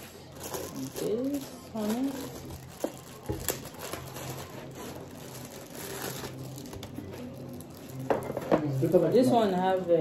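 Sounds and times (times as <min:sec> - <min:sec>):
plastic bag crinkling: 0:00.2 - 0:09.9.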